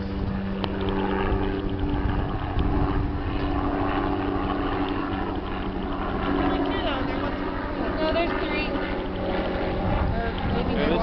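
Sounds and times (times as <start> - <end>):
boat motor droning: 0.0 - 11.0
wind buffeting microphone: 0.0 - 11.0.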